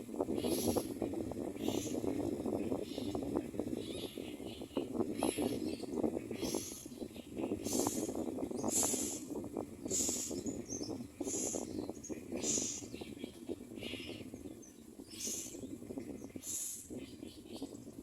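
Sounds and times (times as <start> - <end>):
birds giving harsh hissy calls: 0.3 - 3.2, 3.8 - 14.4, 15.0 - 16.9.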